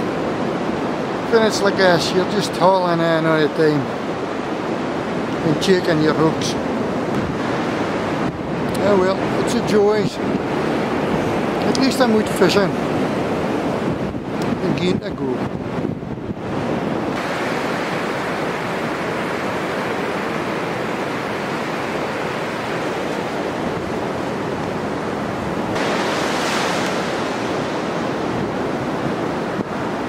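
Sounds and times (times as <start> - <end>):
waves breaking on beach: 0.0 - 30.0
wind buffeting microphone: 3.7 - 30.0.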